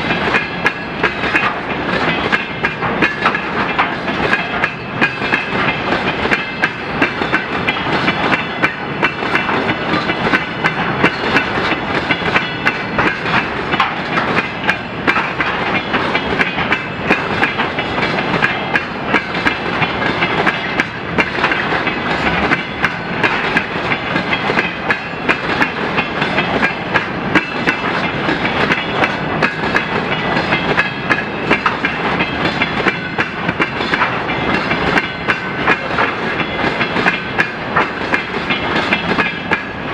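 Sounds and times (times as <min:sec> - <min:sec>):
metallic ringing of wheels: 0:00.0 - 0:39.8
train wheels clattering over joints: 0:00.0 - 0:39.9.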